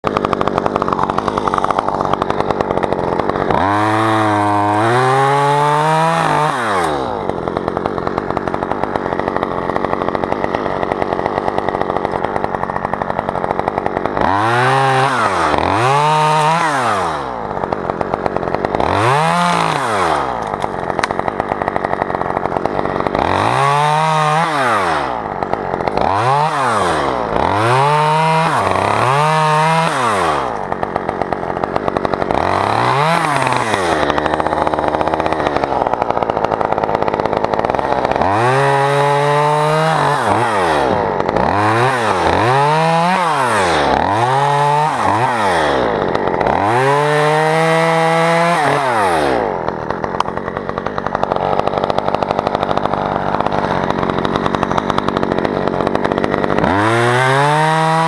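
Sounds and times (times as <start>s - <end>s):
chainsaw engine revving: 0.0s - 58.0s.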